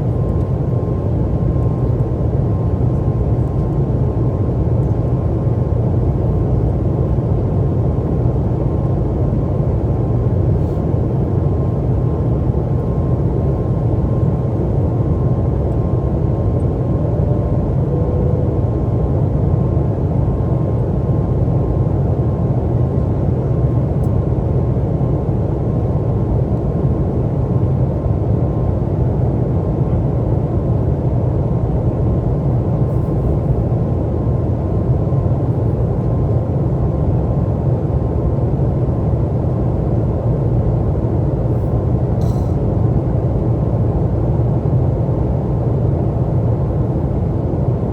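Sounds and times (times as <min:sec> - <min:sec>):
faint steady whine: 0:00.0 - 0:21.7, 0:30.5 - 0:47.9
jet engine roar in cabin: 0:00.0 - 0:47.9.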